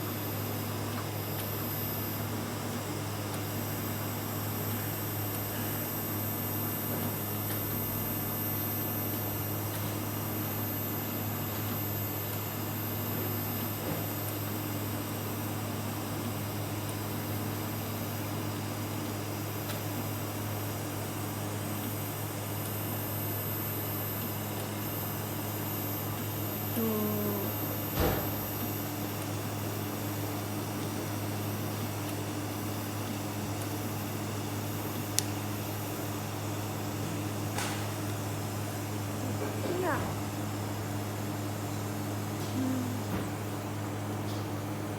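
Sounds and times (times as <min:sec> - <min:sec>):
electric welding hum and hiss: 0:00.0 - 0:44.9.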